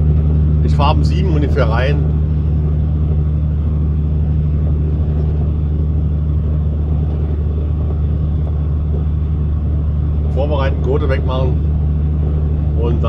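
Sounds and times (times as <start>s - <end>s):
road noise: 0.0s - 13.0s
truck engine drone: 0.0s - 13.0s.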